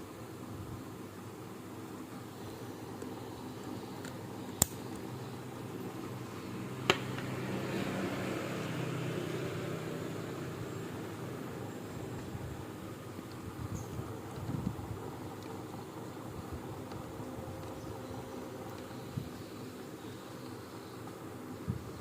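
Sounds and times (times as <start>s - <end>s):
fan-like hum: 0.0s - 22.0s.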